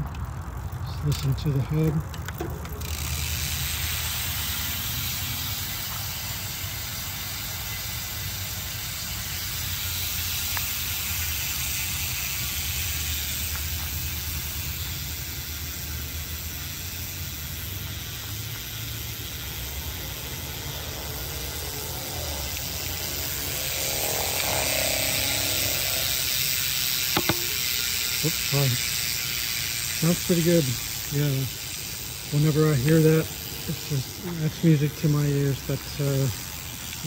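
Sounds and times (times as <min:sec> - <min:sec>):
bicycle freehub buzzing: 0:00.0 - 0:37.0.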